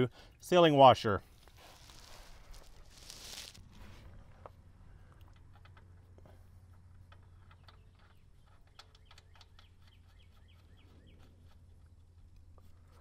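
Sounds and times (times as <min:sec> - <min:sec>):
steady low hum: 0:01.2 - 0:13.0.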